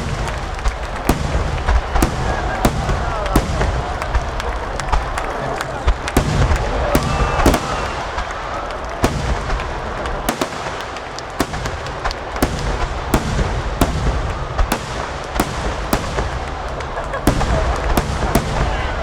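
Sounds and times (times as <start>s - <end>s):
booms echoing: 0.0s - 19.0s
fireworks bangs: 0.0s - 19.0s.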